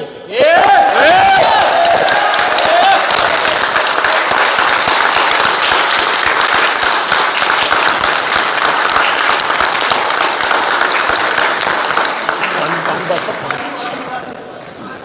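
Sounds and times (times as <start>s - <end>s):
audience applauding: 0.5s - 14.2s.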